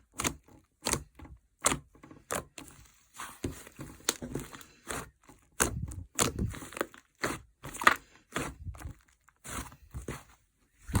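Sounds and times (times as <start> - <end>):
slime squishing and popping: 0.0 - 10.2.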